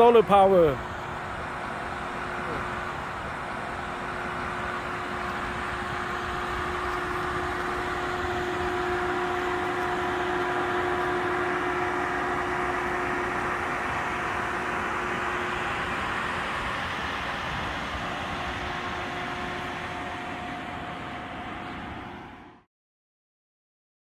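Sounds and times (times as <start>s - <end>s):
electric car whir and hum: 0.8s - 22.6s.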